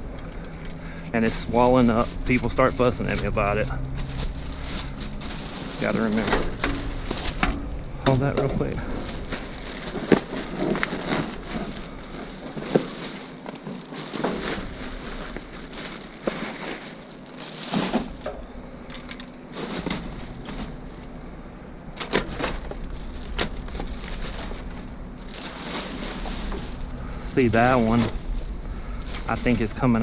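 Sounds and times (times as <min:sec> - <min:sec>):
plastic bags rustling: 0:00.0 - 0:30.0.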